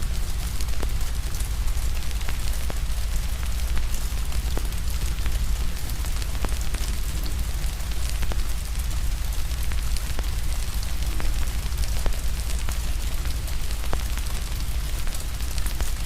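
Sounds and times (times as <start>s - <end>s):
fire crackling and popping: 0.0s - 16.0s
rain hiss: 0.0s - 16.0s.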